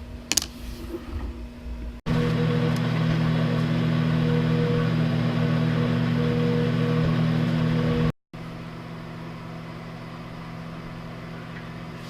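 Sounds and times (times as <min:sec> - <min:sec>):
microwave oven humming: 0:01.1 - 0:12.0.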